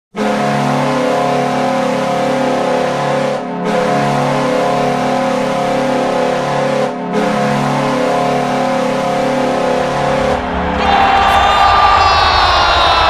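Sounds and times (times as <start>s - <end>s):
arena goal horn blasts: 0.1s - 12.5s.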